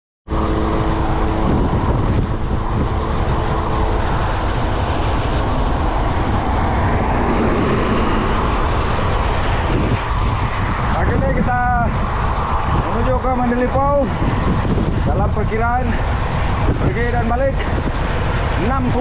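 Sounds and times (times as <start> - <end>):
bicycle tyre noise: 0.3 - 19.0
wind rush over microphone: 0.3 - 19.0.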